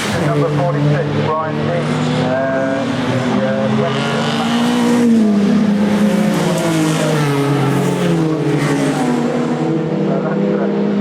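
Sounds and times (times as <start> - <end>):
racing car engine running hard: 0.0 - 11.0.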